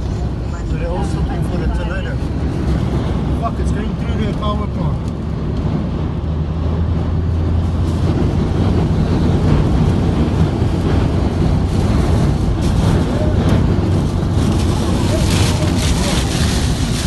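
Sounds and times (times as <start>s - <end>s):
car rumble: 0.0s - 17.0s
wind rushing over car: 0.0s - 17.0s.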